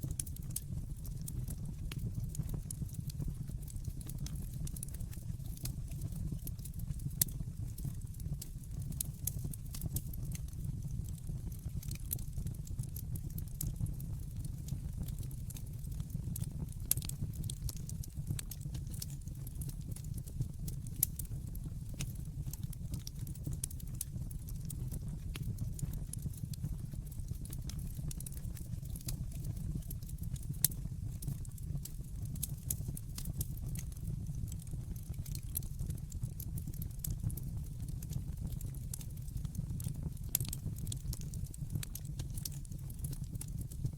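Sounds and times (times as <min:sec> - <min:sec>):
fire crackling and snapping: 0:00.0 - 0:43.9
low rumble of flames: 0:00.0 - 0:43.9.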